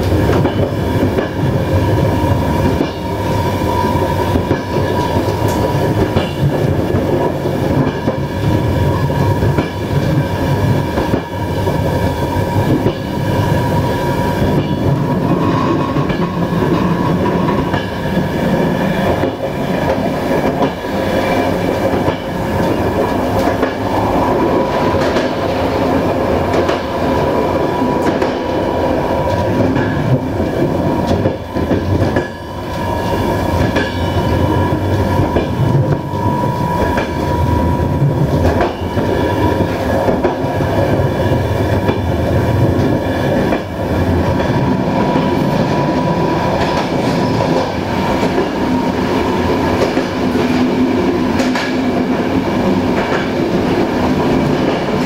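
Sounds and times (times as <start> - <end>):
train wheel-on-rail rumble: 0.0 - 55.0.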